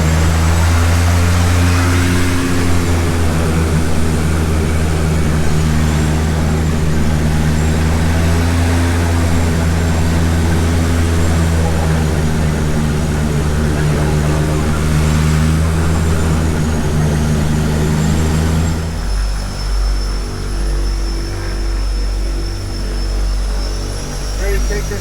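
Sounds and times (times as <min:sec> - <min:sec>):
propeller engine drone: 0:00.0 - 0:25.0
thin high whine: 0:00.0 - 0:25.0.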